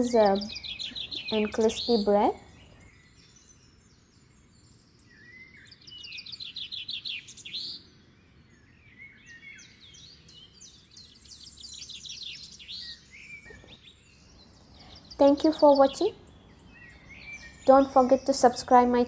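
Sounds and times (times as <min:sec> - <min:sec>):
birds singing chirps and whistles: 0:00.0 - 0:19.0.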